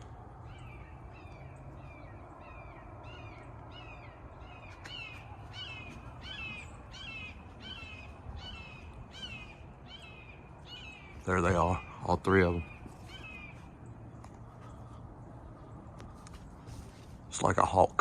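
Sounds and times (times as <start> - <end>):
hawks calling: 0.0 - 17.9.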